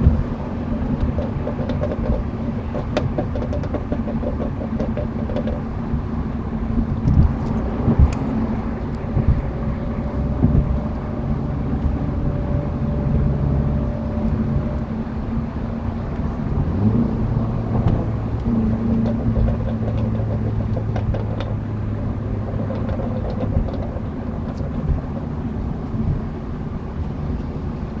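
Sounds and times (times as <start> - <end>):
exhaust pops: 0.0 - 15.0, 16.0 - 26.4
car exhaust running: 0.0 - 28.0.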